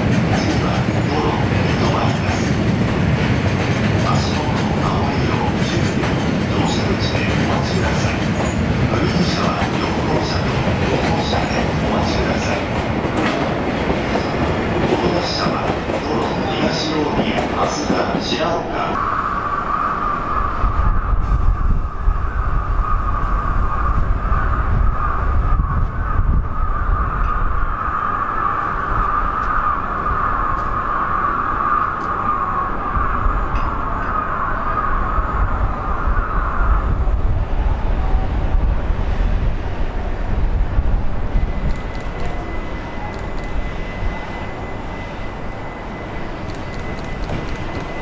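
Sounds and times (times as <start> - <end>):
steady train whine: 0.0 - 48.0
train wheels rumbling on track: 0.0 - 48.0.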